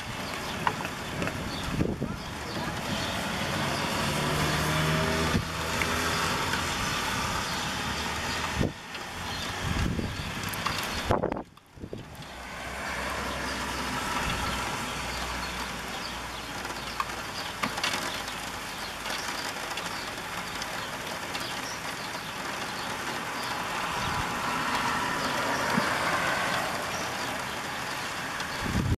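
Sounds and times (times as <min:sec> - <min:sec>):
gusty wind rushing through trees: 0:00.0 - 0:28.9.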